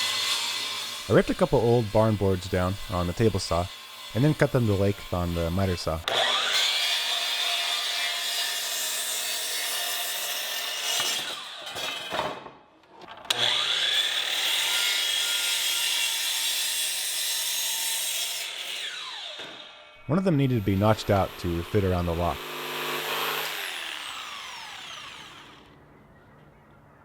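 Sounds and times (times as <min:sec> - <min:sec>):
circular saw cutting wood: 0:00.0 - 0:12.2, 0:13.3 - 0:25.8.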